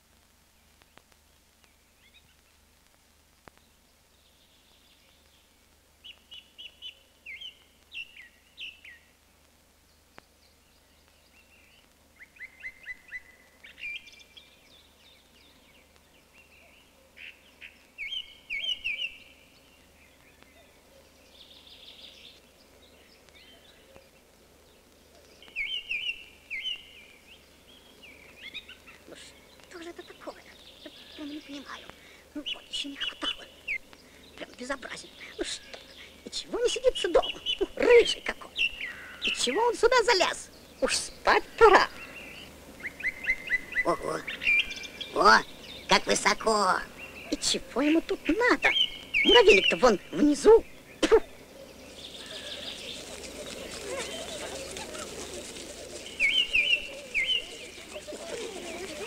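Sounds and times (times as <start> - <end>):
faint steady hiss: 0.0 - 59.0
songbird chirps and trills: 0.0 - 59.0.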